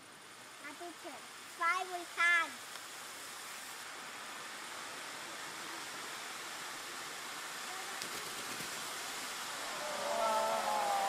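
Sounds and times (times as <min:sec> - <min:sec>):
firework fountains hissing: 0:00.6 - 0:11.0.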